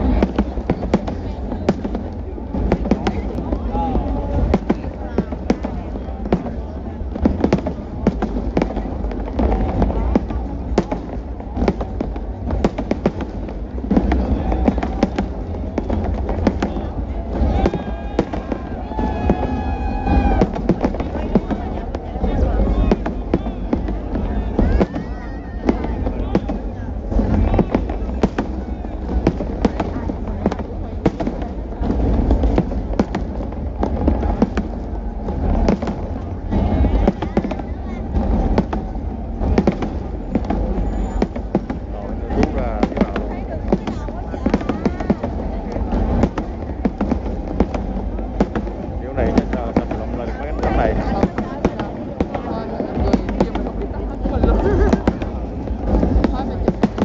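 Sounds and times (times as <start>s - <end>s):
fireworks bangs: 0.0s - 57.0s
low rumble: 0.0s - 57.0s.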